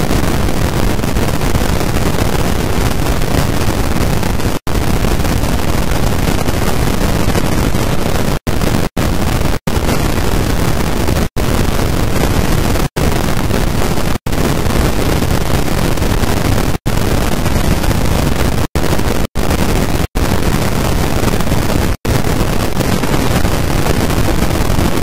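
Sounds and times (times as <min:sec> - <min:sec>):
loud static noise: 0:00.0 - 0:25.0.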